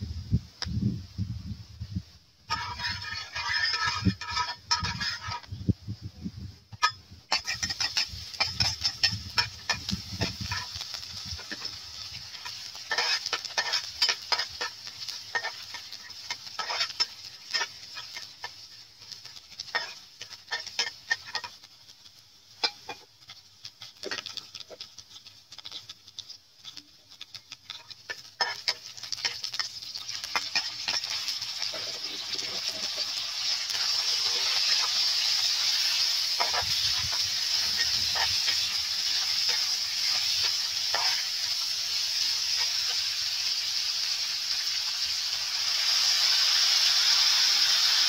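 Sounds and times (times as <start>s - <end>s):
garlic sizzling in hot oil: 0.0s - 48.0s
metal spatula scraping a pan: 2.5s - 5.6s, 6.7s - 22.0s, 22.6s - 43.2s.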